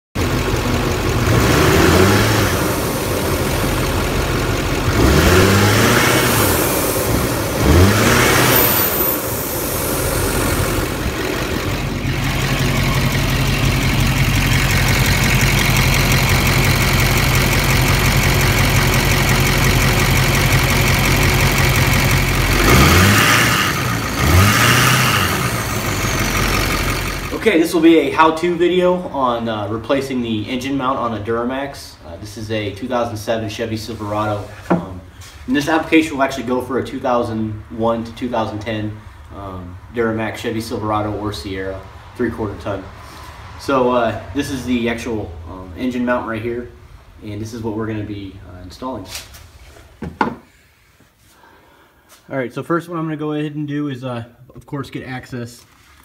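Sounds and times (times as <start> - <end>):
diesel engine revving: 0.2 - 32.1, 33.6 - 48.6.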